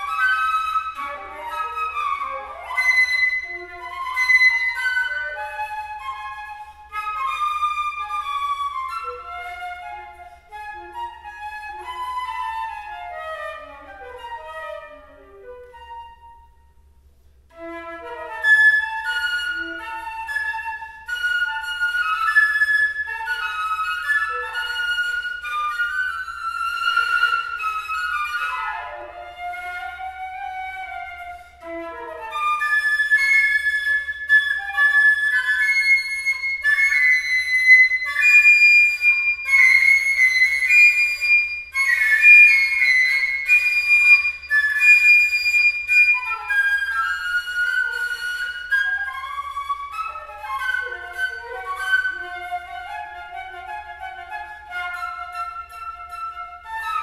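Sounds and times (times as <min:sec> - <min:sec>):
solo flute playing: 0:00.0 - 0:57.0.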